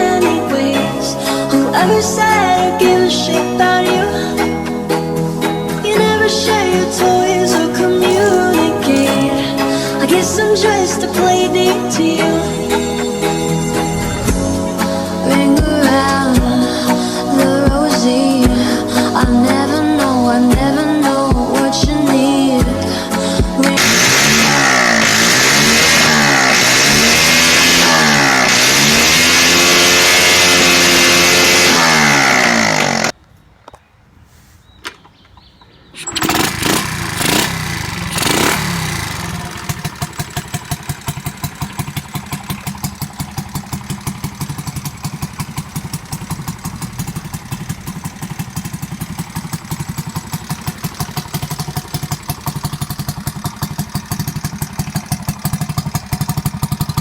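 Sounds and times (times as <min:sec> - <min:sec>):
minibike engine revving and idling: 0:00.0 - 0:33.2, 0:36.0 - 0:57.0.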